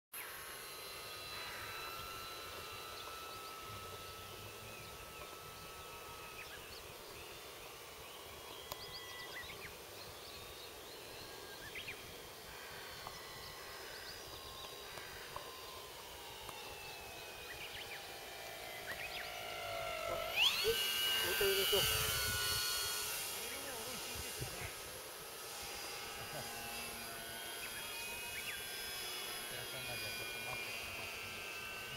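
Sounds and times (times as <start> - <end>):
birds chirping: 0.2 - 31.9
model plane motor whine: 0.2 - 31.9.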